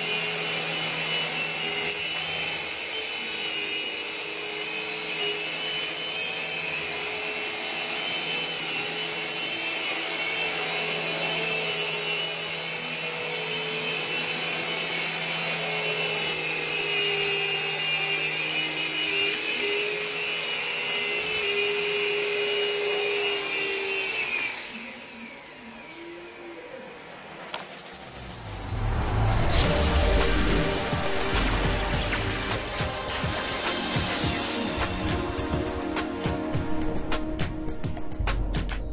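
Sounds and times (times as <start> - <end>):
toy helicopter motor whining: 0.0 - 35.9.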